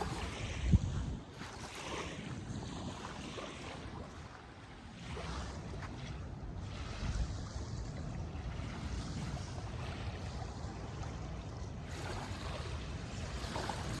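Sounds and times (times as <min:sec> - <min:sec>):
river water washing: 0:00.0 - 0:14.0
wind rumbling on microphone: 0:00.0 - 0:14.0.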